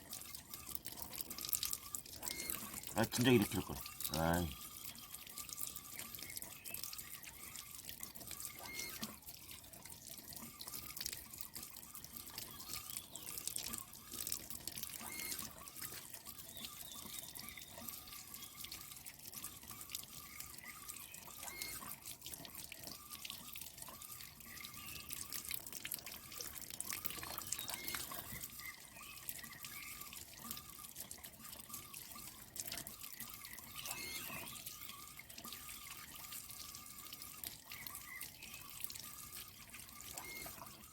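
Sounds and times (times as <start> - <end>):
water trickling and dripping: 0.0 - 40.9.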